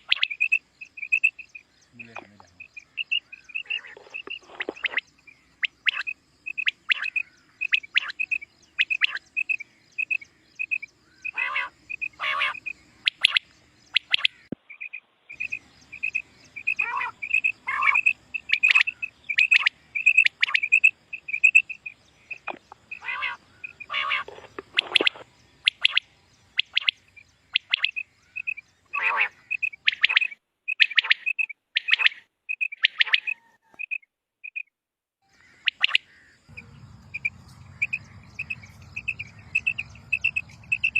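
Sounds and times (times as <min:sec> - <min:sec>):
quail calling: 0:00.0 - 0:34.0, 0:35.3 - 0:40.9.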